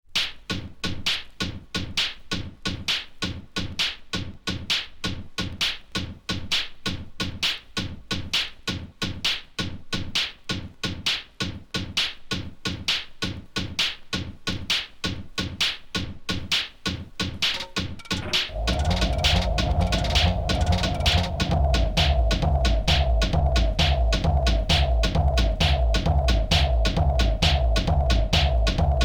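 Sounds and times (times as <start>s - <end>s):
techno music with percussive hits: 0.2s - 29.0s.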